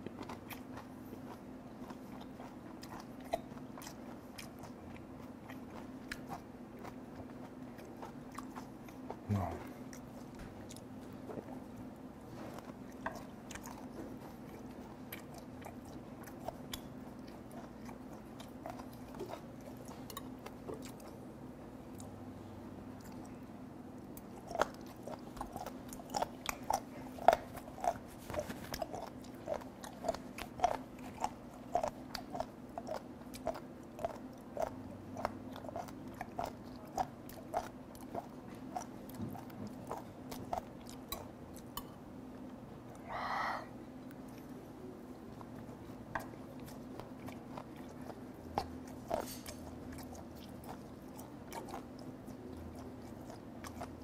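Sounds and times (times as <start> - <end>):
person chewing: 0.0 - 43.0, 43.9 - 54.0
low room hum: 0.0 - 54.0.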